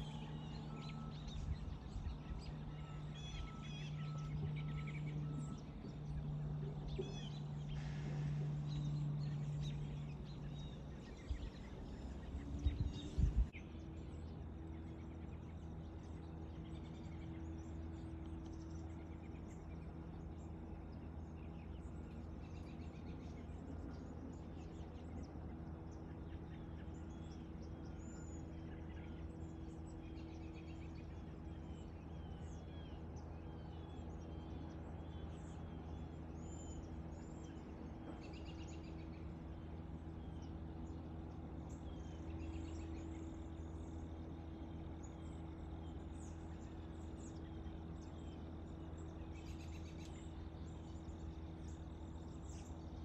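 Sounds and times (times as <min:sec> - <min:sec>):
faint bird chirps: 0:00.0 - 0:53.0
steady low hum: 0:00.0 - 0:53.0.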